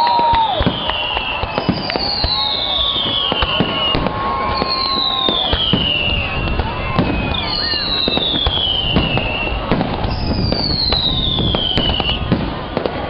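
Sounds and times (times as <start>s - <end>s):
fireworks booming and crackling: 0.0s - 13.0s
fireworks whistles falling in pitch: 0.0s - 13.0s.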